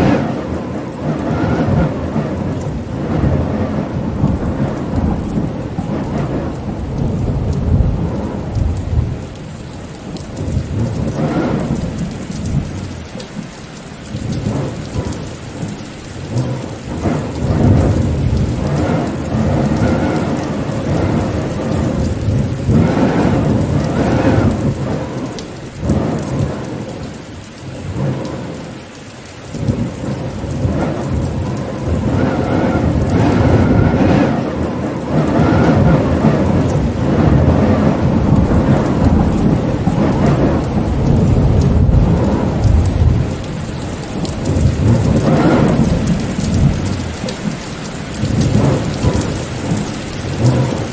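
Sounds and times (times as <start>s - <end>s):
deep rumbling thunder: 0.0s - 28.8s, 29.5s - 50.9s
steady rain: 0.0s - 50.9s.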